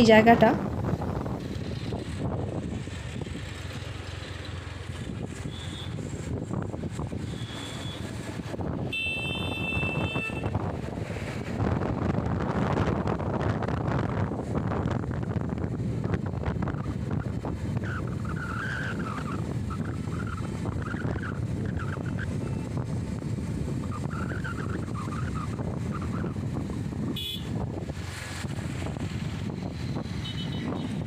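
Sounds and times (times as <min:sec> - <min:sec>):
wind rushing over microphone: 0:00.0 - 0:04.1, 0:04.8 - 0:31.0
motorcycle riding at speed: 0:00.0 - 0:31.0.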